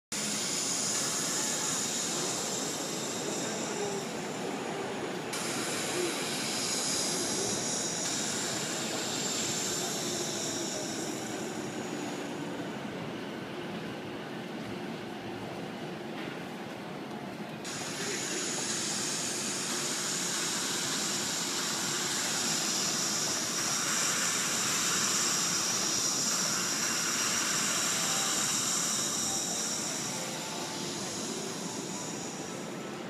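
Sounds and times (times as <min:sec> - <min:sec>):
high hiss: 0:00.1 - 0:13.9, 0:17.6 - 0:33.0
busy train station concourse: 0:00.1 - 0:33.0.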